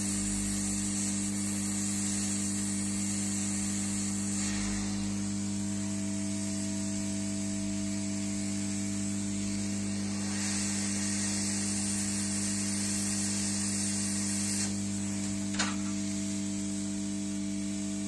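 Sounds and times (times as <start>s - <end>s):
hot air station hiss: 0.0s - 18.0s.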